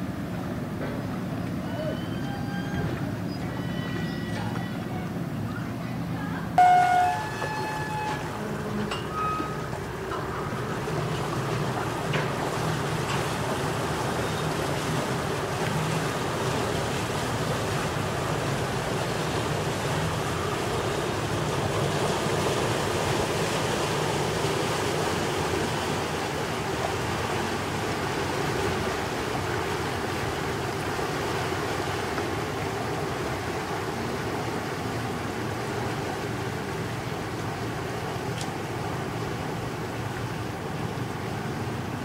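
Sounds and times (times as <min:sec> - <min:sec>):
boat engines droning: 0:00.0 - 0:42.0
river water rushing: 0:00.0 - 0:42.0
wind: 0:00.0 - 0:42.0.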